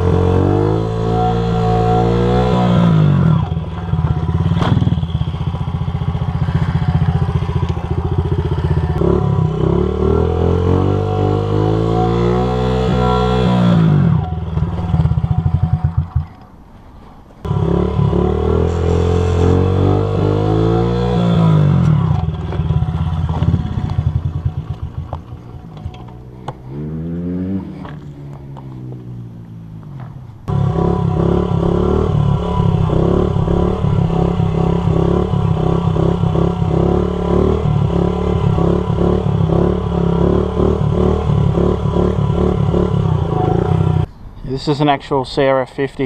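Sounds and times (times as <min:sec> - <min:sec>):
small motorcycle engine revving: 0:00.0 - 0:16.4, 0:17.4 - 0:28.2, 0:30.5 - 0:44.1.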